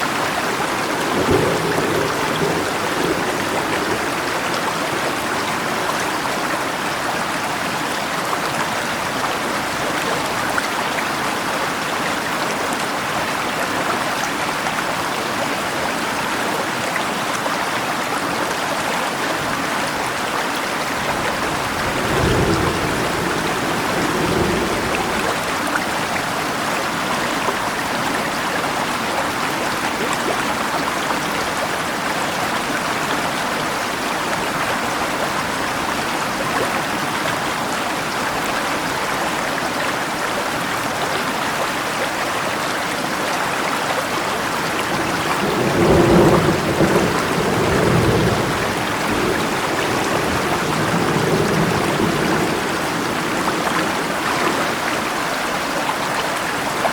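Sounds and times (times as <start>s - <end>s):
rain: 0.0s - 56.9s
river rushing: 0.0s - 56.9s.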